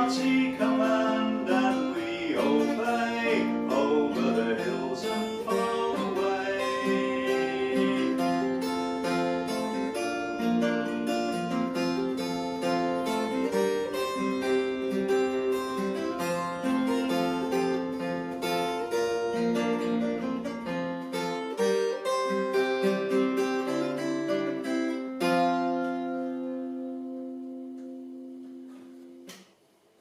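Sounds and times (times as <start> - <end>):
acoustic guitar music: 0.0 - 29.4.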